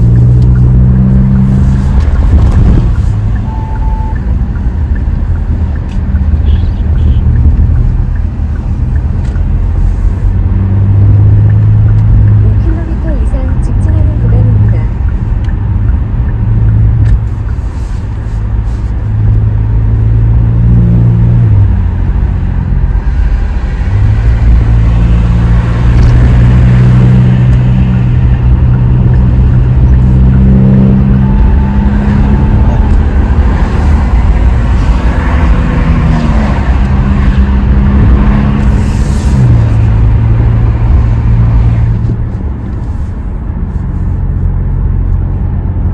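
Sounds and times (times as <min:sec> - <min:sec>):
car engine droning: 0:00.0 - 0:45.9.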